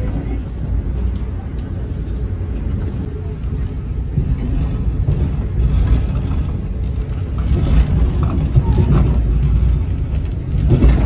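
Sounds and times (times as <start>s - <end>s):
train rumble inside passenger car: 0.0s - 11.0s.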